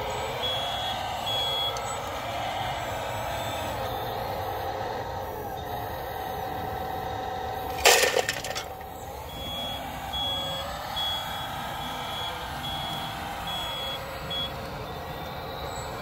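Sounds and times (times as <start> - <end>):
electric motor and pump whining: 0.0 - 16.0
reversing alarm beeps: 0.0 - 16.0.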